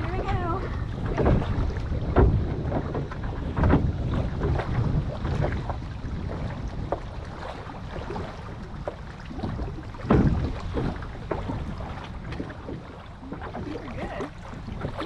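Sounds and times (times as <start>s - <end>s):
person wading in water: 0.0s - 15.0s
water sloshing around kayak hull: 0.0s - 15.0s
wind buffeting microphone: 0.0s - 15.0s.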